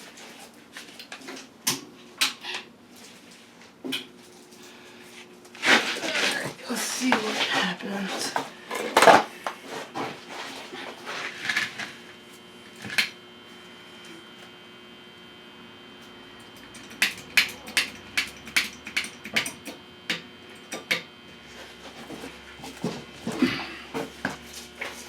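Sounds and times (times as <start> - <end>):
steady electrical hum: 0.0 - 25.0.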